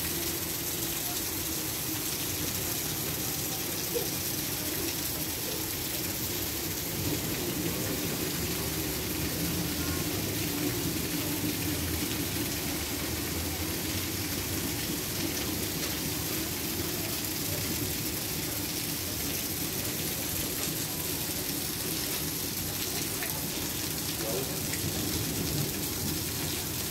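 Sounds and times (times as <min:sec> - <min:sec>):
rain pouring on pavement and cars: 0:00.0 - 0:26.9.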